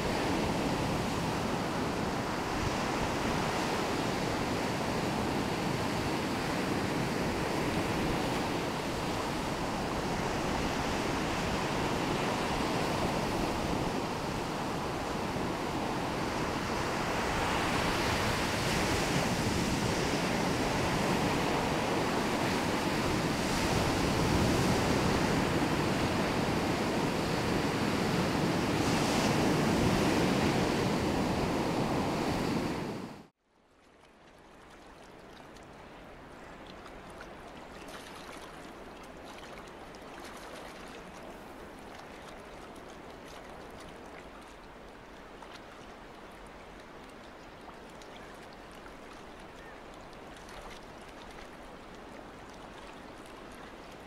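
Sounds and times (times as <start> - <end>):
waves breaking on shore: 0.0 - 33.3, 34.0 - 54.0.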